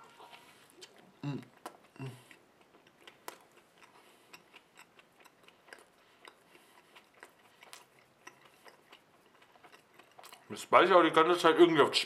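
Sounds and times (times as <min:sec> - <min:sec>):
chewing mouth clicks: 0:00.0 - 0:10.6.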